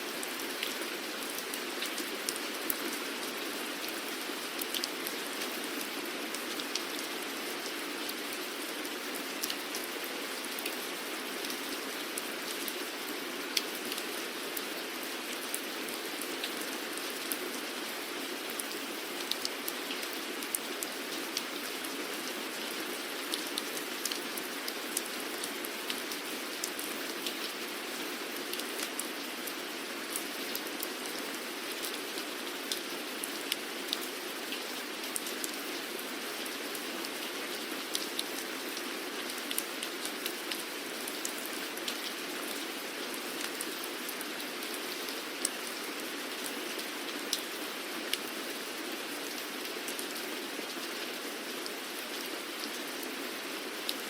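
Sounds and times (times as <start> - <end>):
raindrops ticking on a surface: 0.2 - 48.4.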